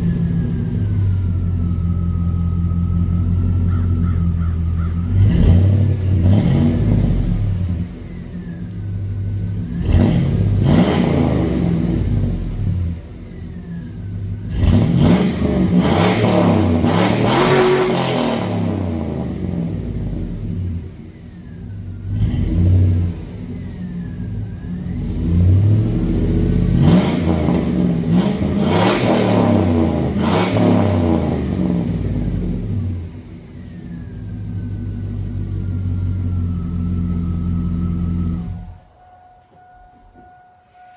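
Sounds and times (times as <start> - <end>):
truck engine revving and idling: 0.0 - 40.9.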